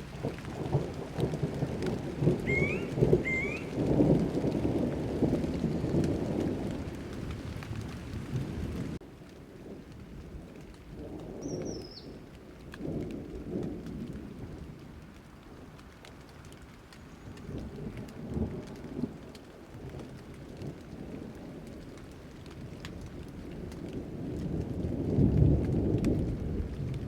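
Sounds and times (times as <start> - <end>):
low rolling thunder: 0.0 - 15.8, 16.5 - 27.0
steady rain falling: 0.0 - 27.0.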